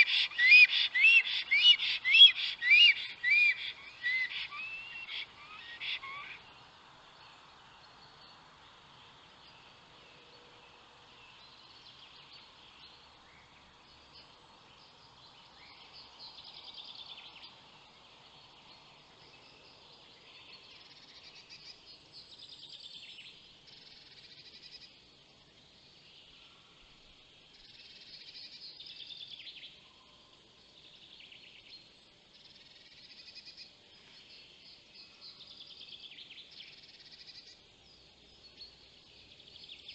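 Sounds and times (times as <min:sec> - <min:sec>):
songbirds singing: 0:00.0 - 0:39.9
steady low hiss: 0:00.0 - 0:39.9.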